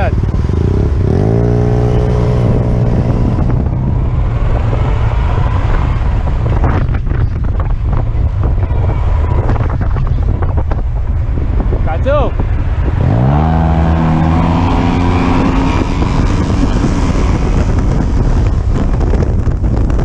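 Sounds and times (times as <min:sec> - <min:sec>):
vehicle engine revving: 0:00.0 - 0:10.2, 0:12.4 - 0:20.0
wind buffeting microphone: 0:00.0 - 0:20.0.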